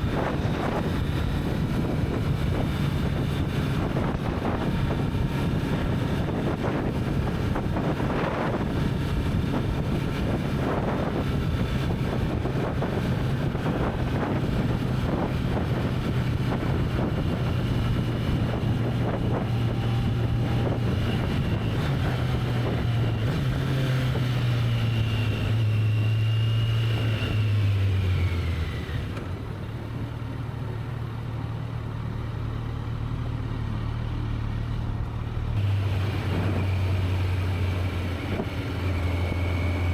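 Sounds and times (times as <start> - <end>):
wind noise on microphone: 0.0 - 30.0, 35.5 - 39.9
motorcycle engine running: 0.0 - 39.9.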